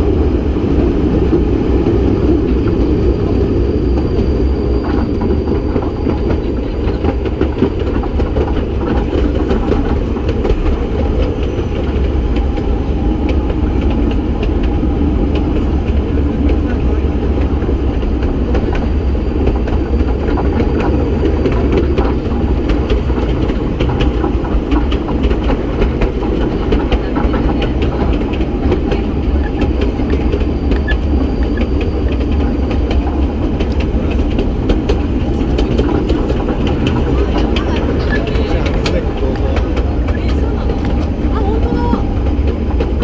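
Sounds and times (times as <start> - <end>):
train rumbling: 0.0 - 43.0
wheels clicking and rattling on rails: 0.0 - 43.0.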